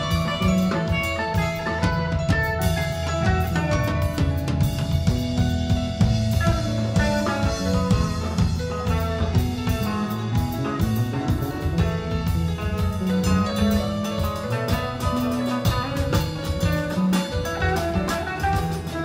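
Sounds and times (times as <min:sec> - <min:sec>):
drum kit with cymbal strokes: 0:00.0 - 0:19.0
electric guitar: 0:00.0 - 0:19.0
low bass line: 0:00.0 - 0:19.0.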